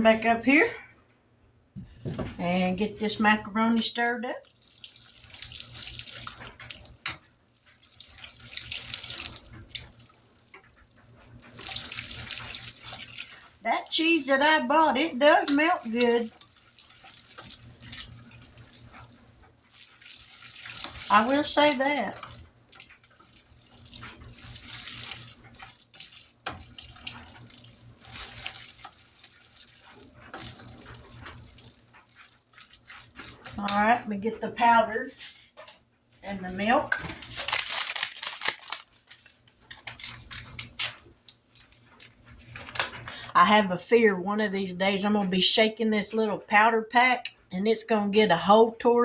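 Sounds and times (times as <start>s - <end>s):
water sloshing in pot: 1.8s - 43.8s.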